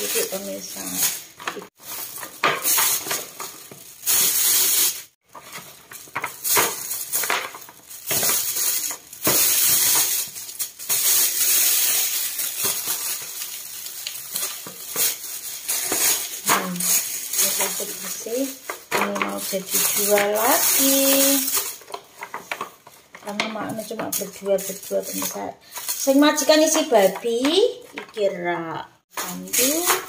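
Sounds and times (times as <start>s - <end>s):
plastic bag crinkling: 0.0s - 28.3s, 29.1s - 30.0s.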